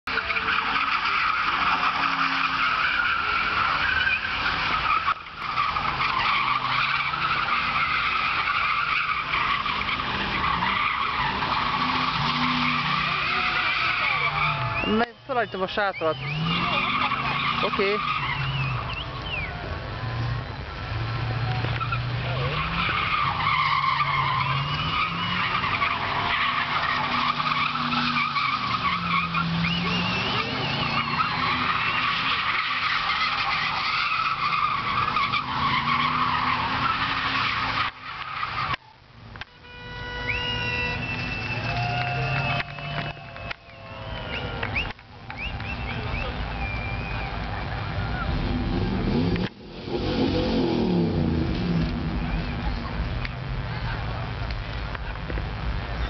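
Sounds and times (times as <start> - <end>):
car tyres screeching: 0.0 - 56.0.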